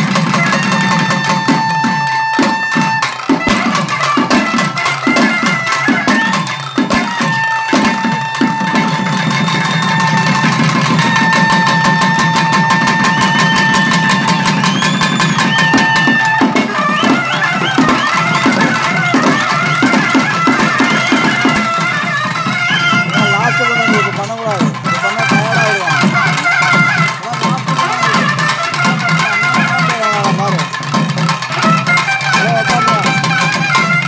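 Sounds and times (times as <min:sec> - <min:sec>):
barrel drums beating fast: 0:00.0 - 0:34.0
pipe playing held note and melody: 0:00.0 - 0:34.0.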